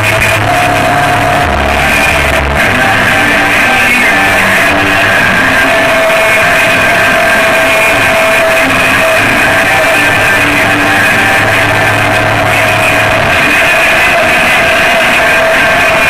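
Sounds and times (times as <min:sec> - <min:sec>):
deep bass note: 0:00.0 - 0:15.0
noise-rock music: 0:00.0 - 0:16.0.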